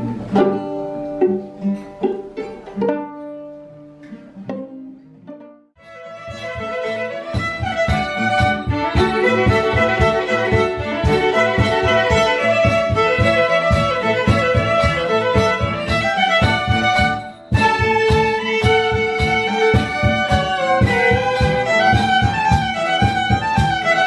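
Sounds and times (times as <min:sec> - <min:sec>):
live violin music: 0:04.4 - 0:24.0.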